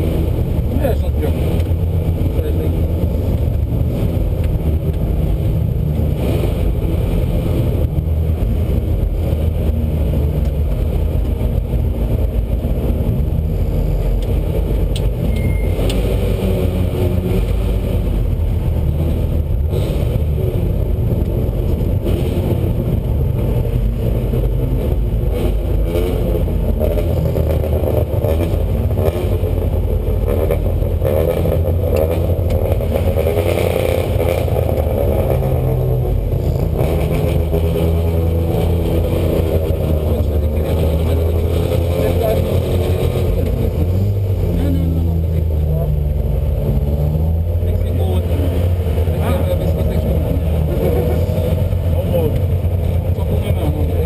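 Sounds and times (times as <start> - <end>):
car engine at low revs: 0.0 - 54.0.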